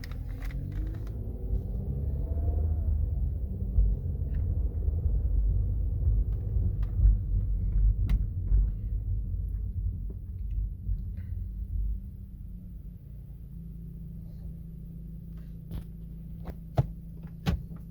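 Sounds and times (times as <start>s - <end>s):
car road and drivetrain rumble: 0.0s - 17.9s.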